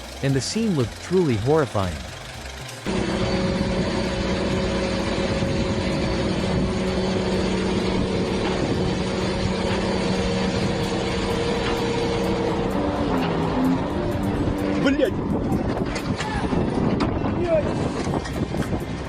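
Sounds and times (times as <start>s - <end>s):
heavy engine running: 0.0s - 19.0s.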